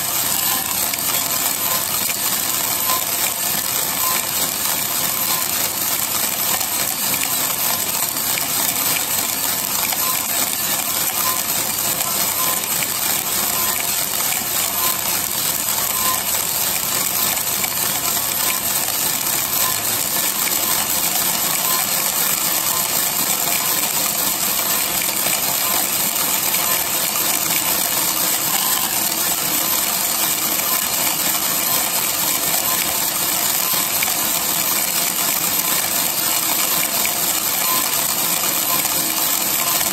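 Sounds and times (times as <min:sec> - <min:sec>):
coffee beans rattling in drum: 0:00.0 - 0:39.9.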